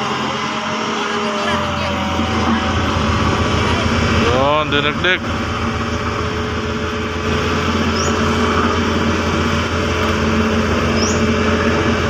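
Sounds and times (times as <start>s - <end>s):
diesel roller engine running: 0.0s - 12.0s.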